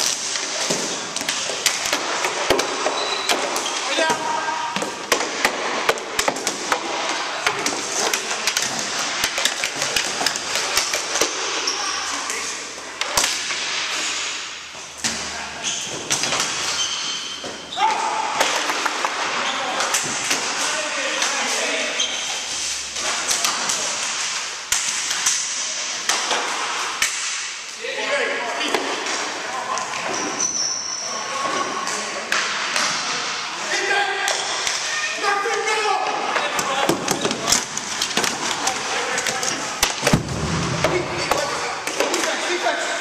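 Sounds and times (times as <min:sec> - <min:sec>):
hockey sticks clacking: 0:00.0 - 0:27.7, 0:28.6 - 0:43.0
steady background noise: 0:00.0 - 0:43.0
steady hall noise: 0:00.0 - 0:43.0.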